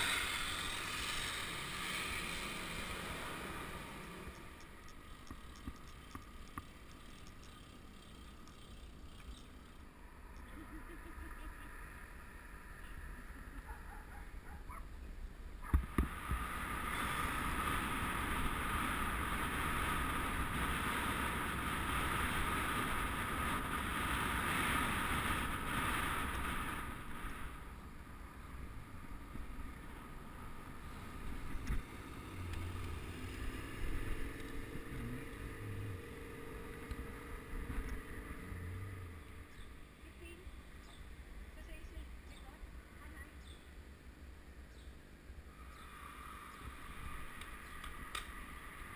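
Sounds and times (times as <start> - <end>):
wind and tyre noise from bike: 0.0 - 10.5, 11.1 - 42.6, 44.7 - 48.9.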